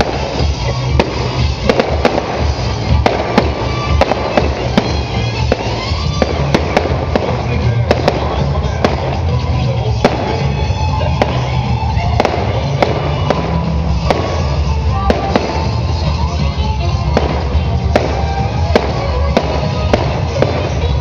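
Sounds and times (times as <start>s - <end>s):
background music: 0.0s - 21.0s
fireworks bursting: 0.0s - 21.0s.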